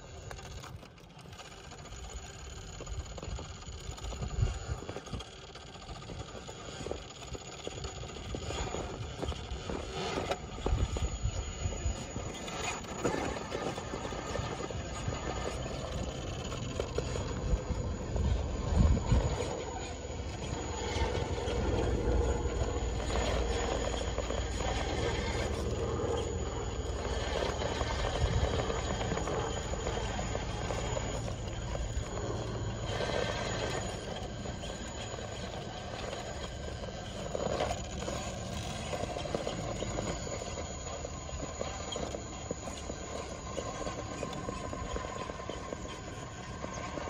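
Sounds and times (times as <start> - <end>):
electric motor and gears whirring: 0.0 - 47.0.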